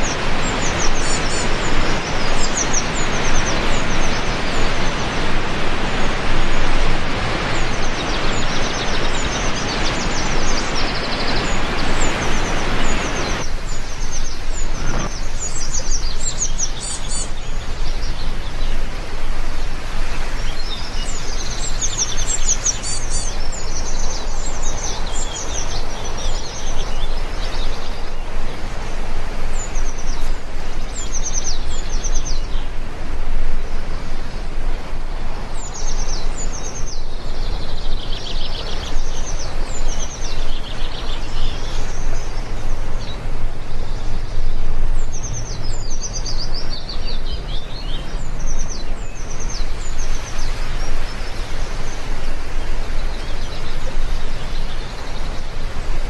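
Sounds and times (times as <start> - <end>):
small birds chirping: 0.0 - 18.8, 19.5 - 32.8, 35.3 - 56.0
rain hiss: 0.0 - 56.0.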